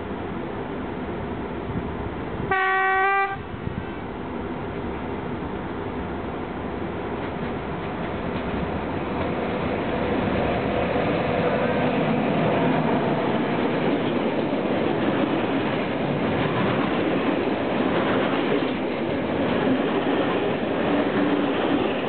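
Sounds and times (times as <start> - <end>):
electric locomotive passing: 0.0 - 22.0
train wheels on rails: 0.0 - 22.0.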